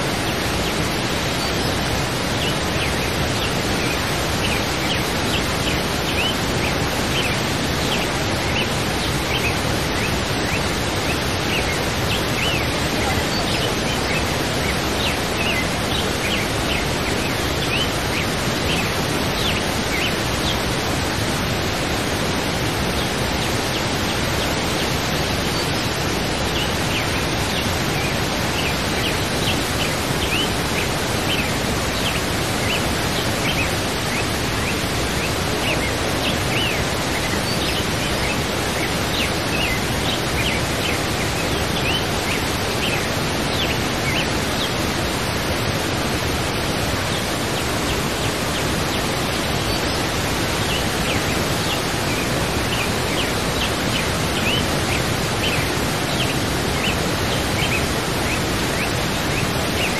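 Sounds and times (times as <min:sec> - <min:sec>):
birds chirping: 0:00.0 - 0:59.9
waterfall rushing: 0:00.0 - 0:59.9.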